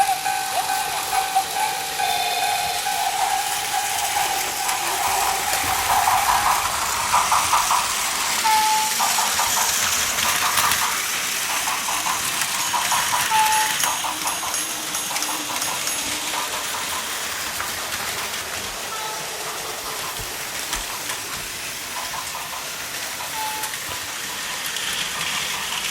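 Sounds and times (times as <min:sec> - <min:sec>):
toy trains rattling on plastic track: 0:00.0 - 0:25.9.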